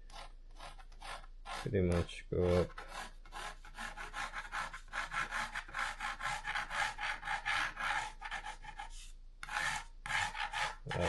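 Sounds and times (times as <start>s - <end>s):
pen scratching on cardboard: 0.1s - 11.0s.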